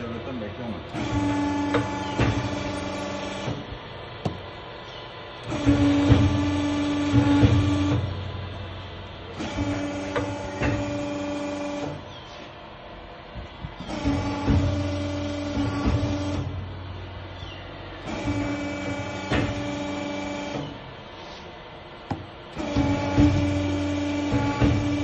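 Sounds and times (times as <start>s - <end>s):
hydraulic press whining: 0.0s - 12.7s, 13.3s - 25.0s.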